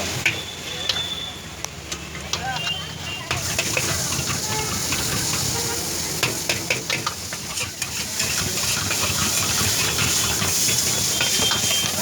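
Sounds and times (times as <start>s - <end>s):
food sizzling in hot oil: 1.8s - 12.0s
metal utensil scraping pan: 2.3s - 12.0s.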